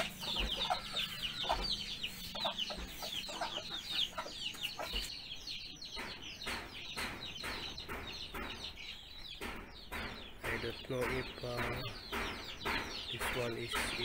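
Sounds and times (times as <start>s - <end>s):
chickens peeping: 0.0s - 14.0s.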